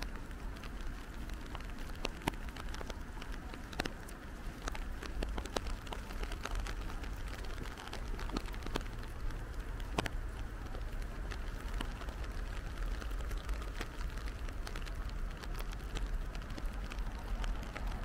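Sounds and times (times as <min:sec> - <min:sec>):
raindrops tapping sharply: 0:00.0 - 0:18.0
steady rain falling: 0:00.0 - 0:18.0.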